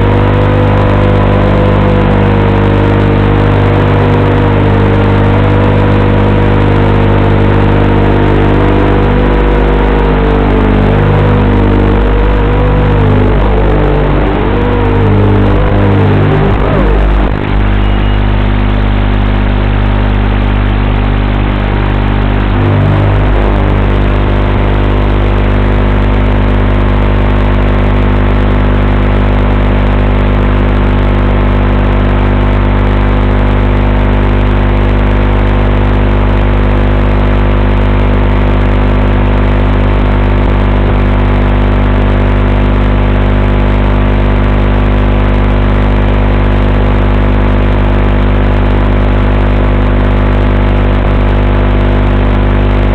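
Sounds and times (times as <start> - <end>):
steady electrical buzz: 0.0 - 52.9.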